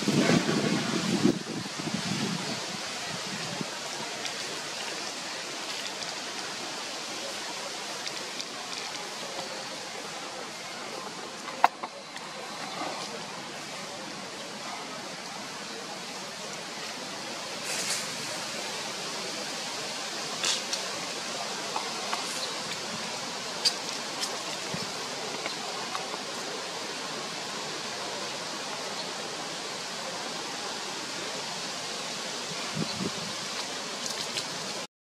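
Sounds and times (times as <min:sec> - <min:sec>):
steady outdoor hiss: 0:00.0 - 0:34.9.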